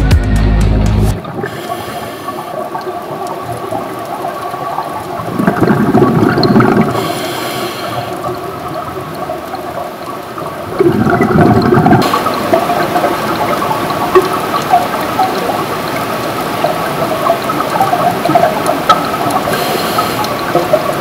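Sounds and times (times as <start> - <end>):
diver bubbles surging: 1.1 - 21.0
steady underwater wash: 1.1 - 21.0.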